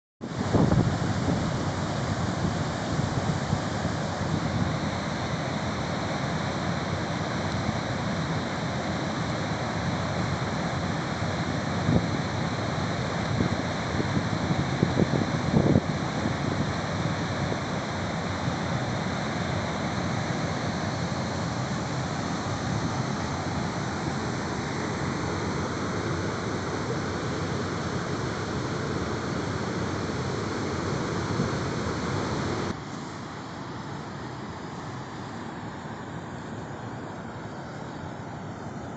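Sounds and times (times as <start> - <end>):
waterfall roaring: 0.2 - 38.9.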